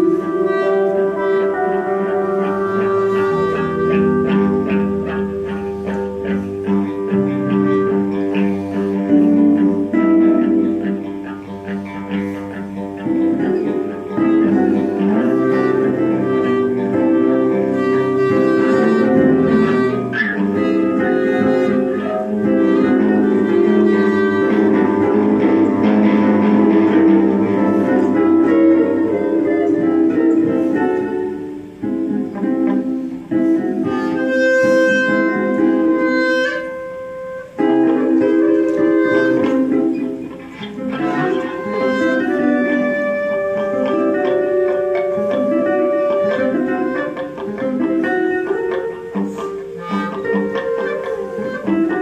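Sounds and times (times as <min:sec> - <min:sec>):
electric guitars: 0:00.0 - 0:52.0
woodwind playing held notes: 0:00.0 - 0:52.0.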